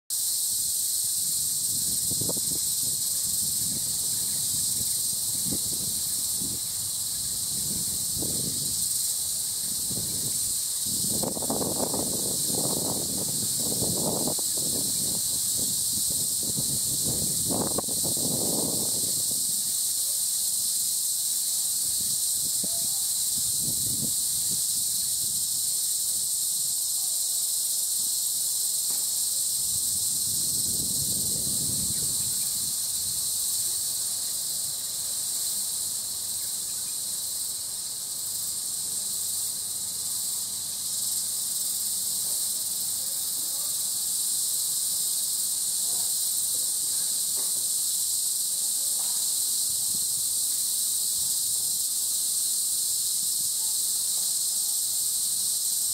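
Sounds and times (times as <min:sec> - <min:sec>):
insects droning at high pitch: 0:00.1 - 0:55.9.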